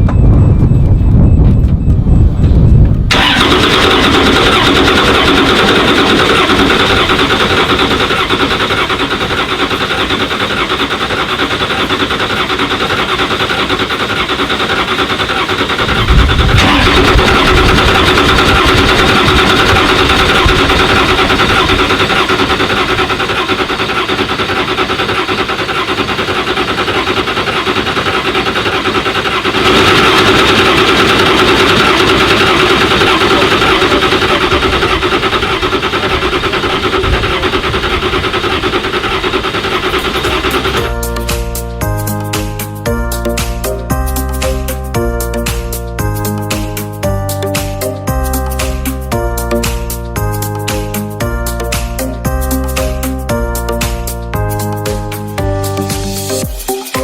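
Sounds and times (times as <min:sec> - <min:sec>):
car engine cranking on starter: 0:02.8 - 0:42.6, 0:43.2 - 0:53.8.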